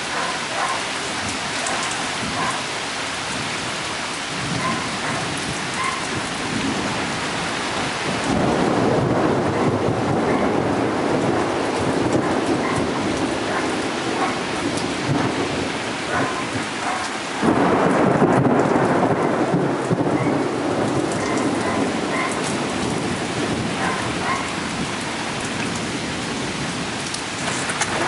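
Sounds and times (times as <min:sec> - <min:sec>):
heavy rain pouring: 0:00.0 - 0:28.0
thunder rumbling: 0:00.0 - 0:28.0.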